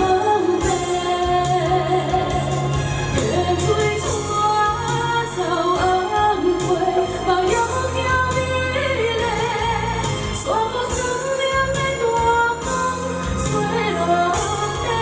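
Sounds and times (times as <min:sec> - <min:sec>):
instrumental accompaniment: 0:00.0 - 0:15.0
woman singing pop song: 0:00.0 - 0:15.0.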